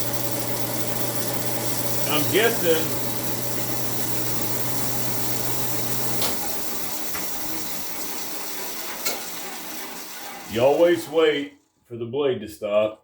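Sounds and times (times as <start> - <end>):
bandsaw running: 0.0 - 11.6.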